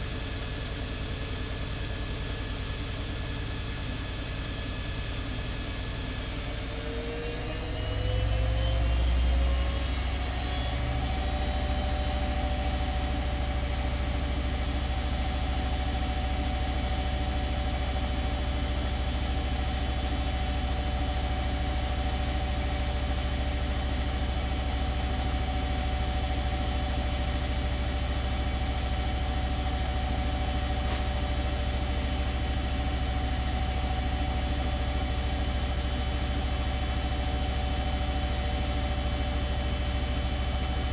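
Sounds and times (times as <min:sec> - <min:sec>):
washing machine low rumble: 0:00.0 - 0:40.9
washing machine spin whine: 0:00.0 - 0:40.9.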